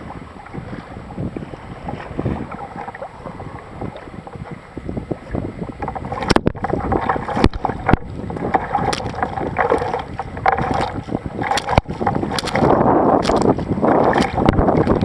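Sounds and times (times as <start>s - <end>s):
paddle splashing in water: 0.0s - 15.0s
water washing over microphone: 0.0s - 15.0s
wind rumble on microphone: 0.0s - 15.0s.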